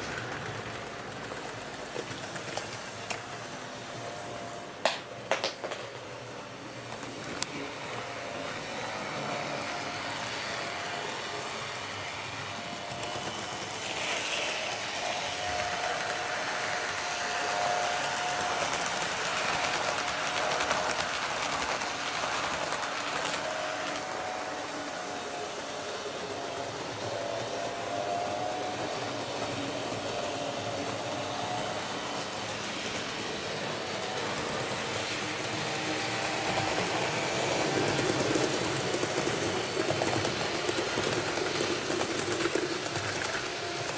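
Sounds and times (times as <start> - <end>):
model train motor whirring: 6.8 - 43.9.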